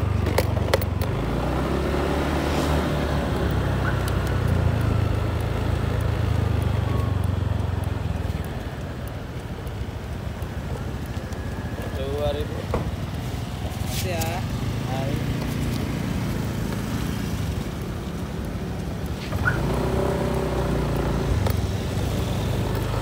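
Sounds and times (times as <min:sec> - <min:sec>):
motor scooter engine running: 0:00.0 - 0:23.0
road noise: 0:00.0 - 0:23.0.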